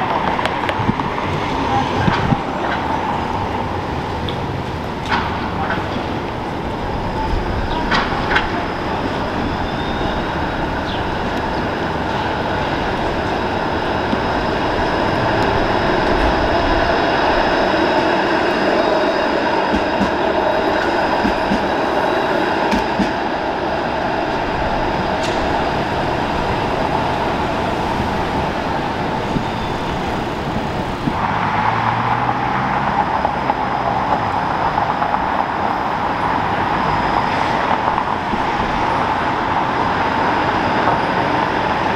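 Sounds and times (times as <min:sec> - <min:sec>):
city traffic: 0:00.0 - 0:41.9
streetcar wheels rumbling on rail: 0:00.0 - 0:41.9.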